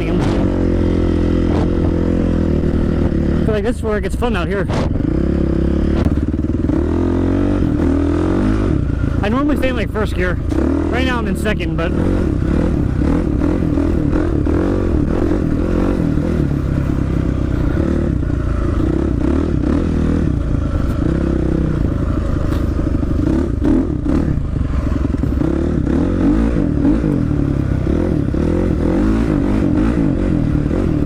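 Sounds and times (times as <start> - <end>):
two-stroke dirt bike engine: 0.0 - 31.0.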